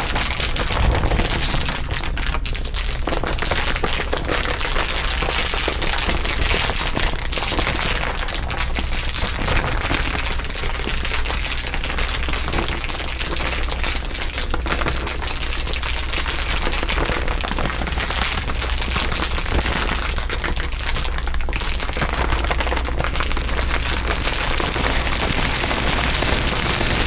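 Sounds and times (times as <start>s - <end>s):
dense crinkling: 0.0s - 27.0s.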